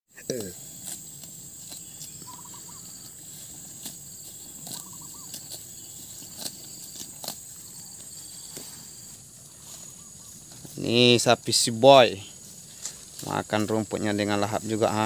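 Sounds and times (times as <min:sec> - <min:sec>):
insects droning: 0:00.1 - 0:15.0
cattle tearing and chewing grass: 0:00.2 - 0:15.0.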